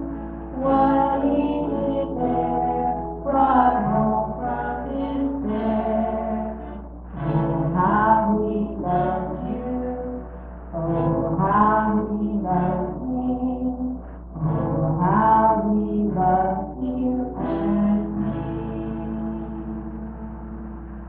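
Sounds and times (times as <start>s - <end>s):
women singing: 0.0s - 10.2s, 10.8s - 20.2s
acoustic guitar: 0.0s - 21.0s.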